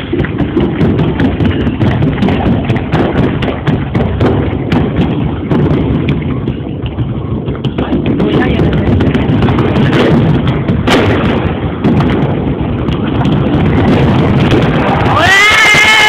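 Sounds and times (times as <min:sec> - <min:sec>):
firecrackers cracking: 0:00.0 - 0:16.0
stadium crowd rumble: 0:00.0 - 0:16.0.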